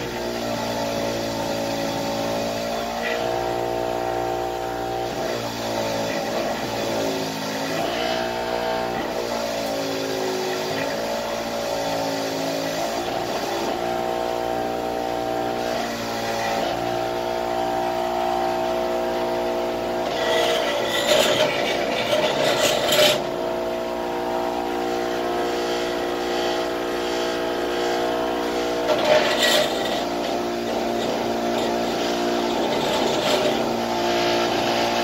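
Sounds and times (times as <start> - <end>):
bench grinder humming: 0.0 - 35.0
wire wheel scrubbing metal: 0.0 - 35.0.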